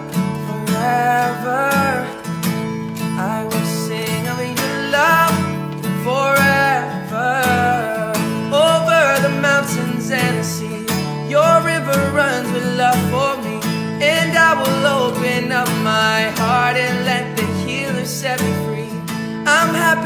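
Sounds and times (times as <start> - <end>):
acoustic guitar strumming: 0.0 - 20.0
man singing: 0.0 - 20.0.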